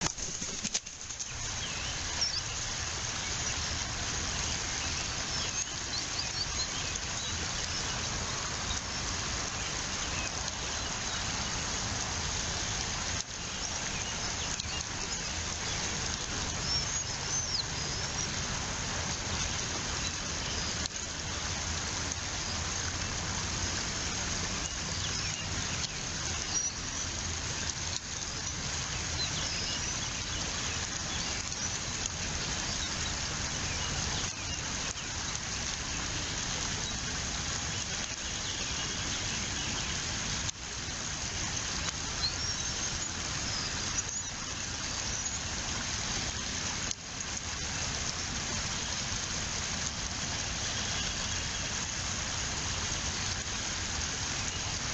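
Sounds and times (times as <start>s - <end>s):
outdoor microphone hiss: 0.0s - 54.9s.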